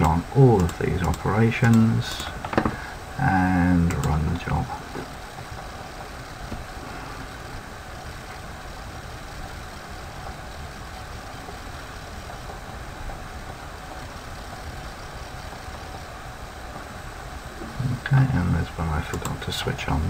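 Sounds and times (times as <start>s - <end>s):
low room hum with faint hiss: 0.0s - 20.0s.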